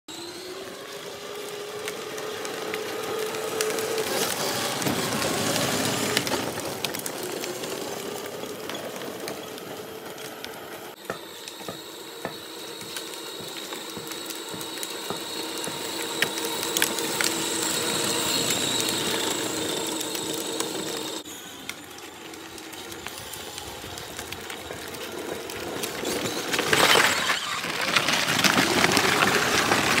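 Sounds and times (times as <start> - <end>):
plastic wheels rolling on asphalt: 0.1 - 30.0
toy buggy motors whining: 0.1 - 30.0
wheels crunching over gravel: 0.1 - 30.0.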